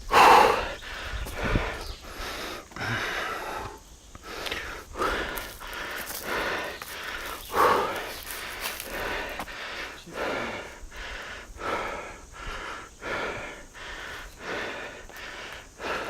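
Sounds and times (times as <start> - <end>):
person breathing heavily: 0.0 - 16.0.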